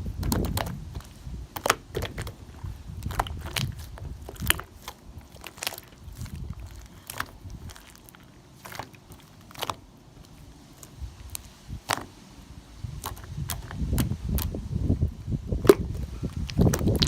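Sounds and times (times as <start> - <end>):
slime squishing: 0.0 - 12.2, 12.8 - 17.0.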